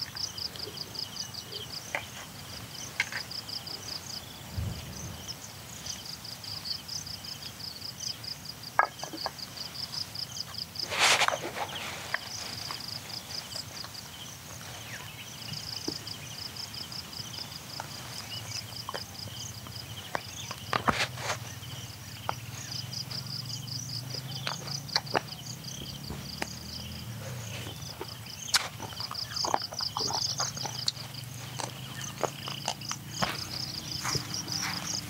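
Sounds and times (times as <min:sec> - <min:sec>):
insects chirping in trills: 0:00.0 - 0:35.0.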